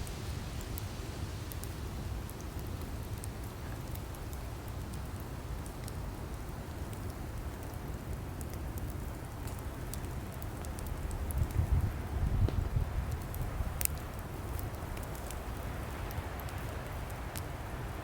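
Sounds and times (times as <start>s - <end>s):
burning logs crackling: 0.0s - 18.0s
low rumble of flames: 0.0s - 18.0s.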